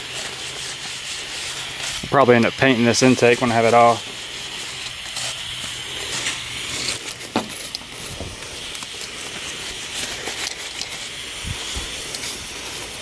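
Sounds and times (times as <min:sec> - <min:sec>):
bristle brush scrubbing: 0:00.0 - 0:13.0.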